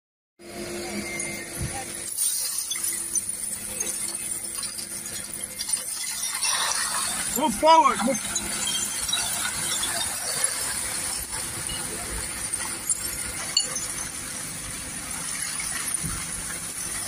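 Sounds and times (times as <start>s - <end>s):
refuse lorry running: 0.4s - 17.0s.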